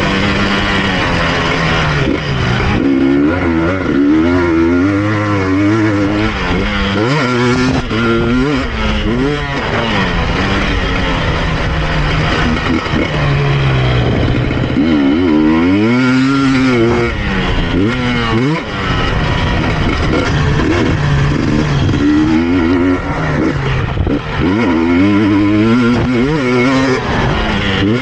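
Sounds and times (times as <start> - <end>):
two-stroke engine revving hard: 0.0 - 28.0.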